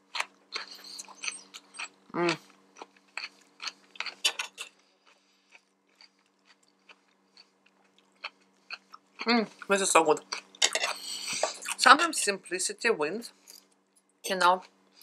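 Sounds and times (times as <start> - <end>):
chewing and crunching salad: 0.0 - 12.3.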